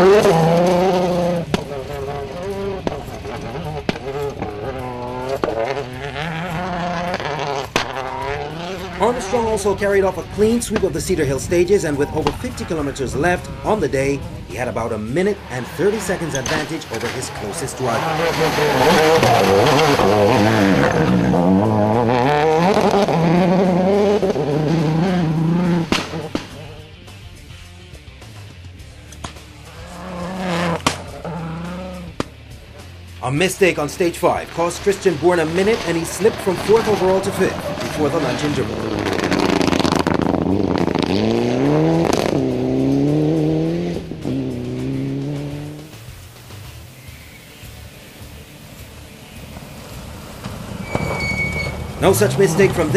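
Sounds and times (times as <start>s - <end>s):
gravel spraying under tyres: 0.0s - 26.7s, 29.5s - 52.9s
rally car engine revving: 0.0s - 52.9s.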